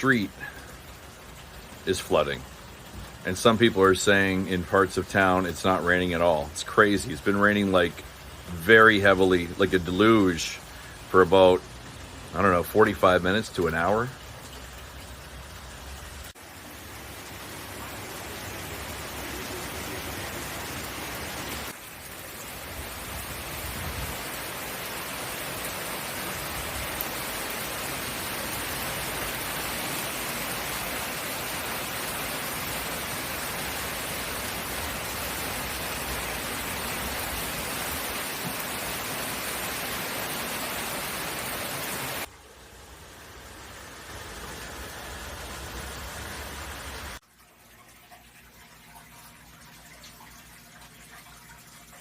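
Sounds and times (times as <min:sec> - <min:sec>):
heavy rain pouring: 0:00.0 - 0:47.2.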